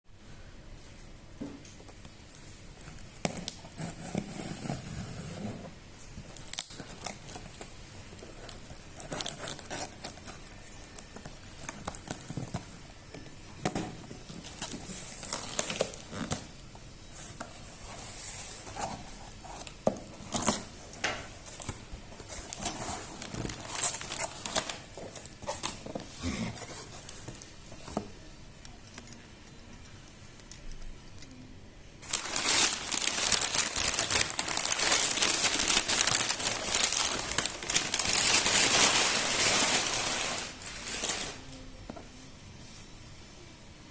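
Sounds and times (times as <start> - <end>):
crinkly noise: 1.9 - 43.1.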